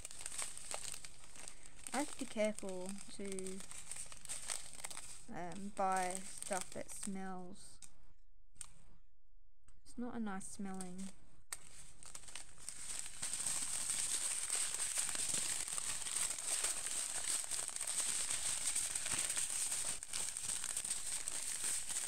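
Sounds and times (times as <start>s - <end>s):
plastic bags crinkling: 0.0s - 7.2s, 11.0s - 22.0s.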